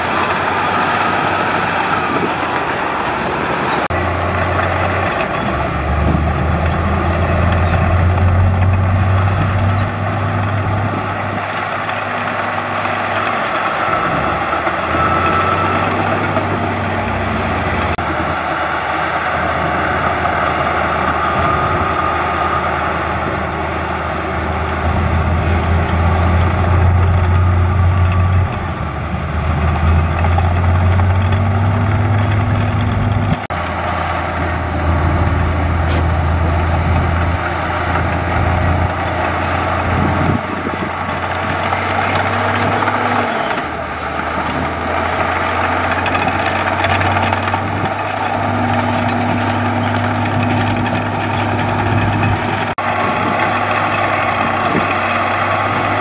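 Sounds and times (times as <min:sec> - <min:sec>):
heavy diesel engines working: 0:00.0 - 0:56.0.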